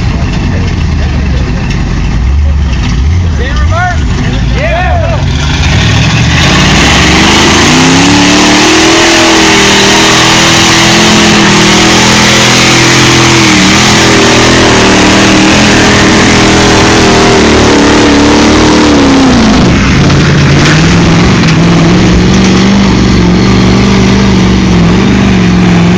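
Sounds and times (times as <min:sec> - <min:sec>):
truck engine revving hard: 0:00.0 - 0:25.9.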